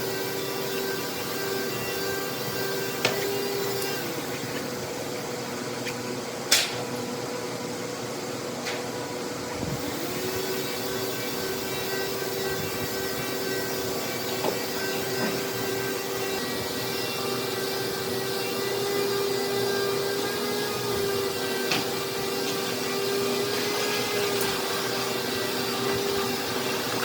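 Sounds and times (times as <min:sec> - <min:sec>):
woodworking machine whine: 0:00.0 - 0:27.0.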